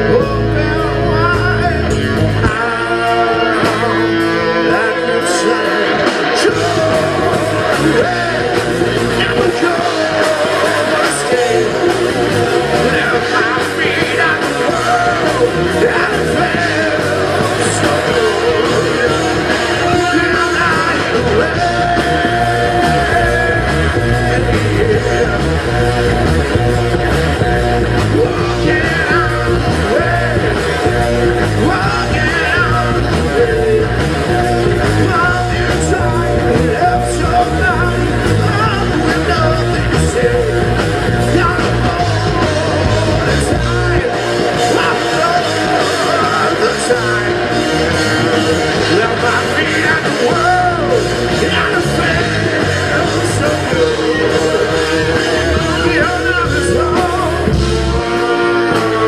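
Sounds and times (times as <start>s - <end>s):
deep bass: 0.0s - 59.0s
live rock band playing: 0.0s - 59.0s
person singing: 0.0s - 59.0s.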